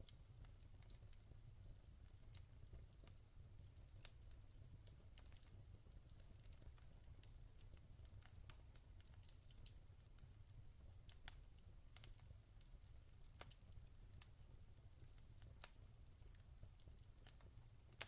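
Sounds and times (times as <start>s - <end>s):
log fire crackling: 0.0s - 18.0s.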